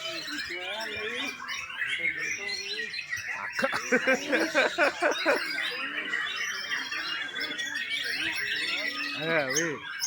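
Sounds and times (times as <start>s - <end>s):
songbird singing: 0.0s - 10.0s.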